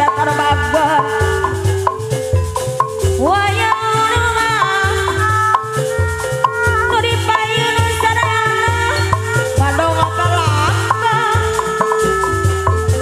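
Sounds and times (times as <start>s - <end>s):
hand-drum beat: 0.0s - 13.0s
sliding melody line: 0.0s - 13.0s.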